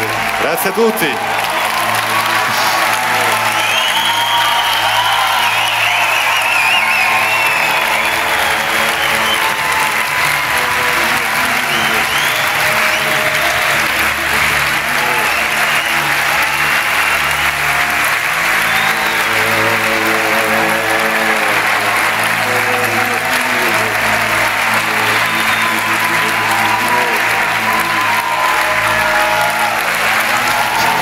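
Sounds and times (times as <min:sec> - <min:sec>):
audience applauding: 0:00.0 - 0:31.0
music of sustained tones: 0:00.0 - 0:31.0.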